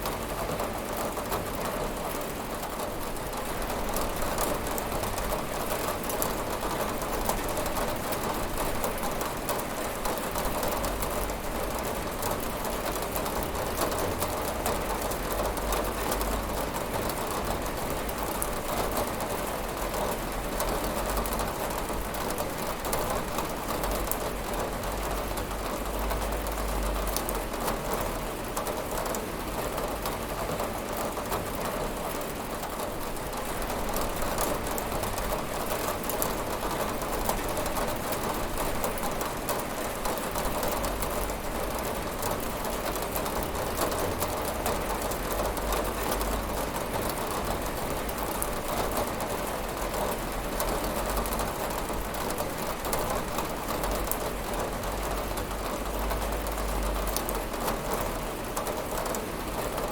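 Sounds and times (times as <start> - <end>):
rain pattering on a window: 0.0 - 59.9.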